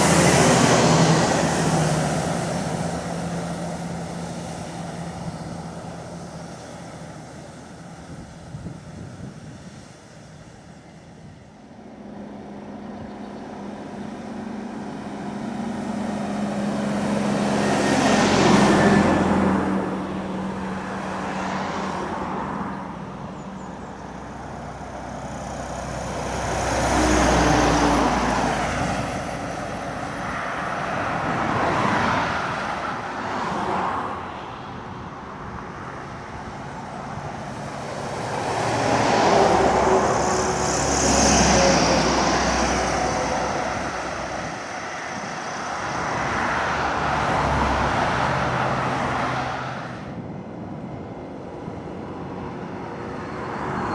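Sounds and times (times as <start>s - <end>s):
lorries passing uphill: 0.0s - 53.9s.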